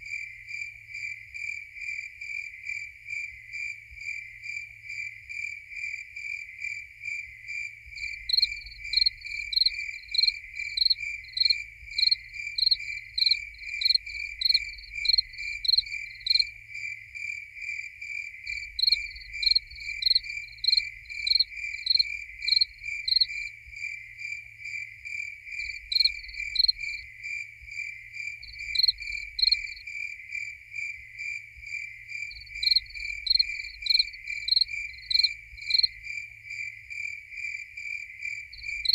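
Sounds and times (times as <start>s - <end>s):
cricket steady chirp: 0.0s - 38.9s
higher-pitched cricket chirping: 7.3s - 38.9s.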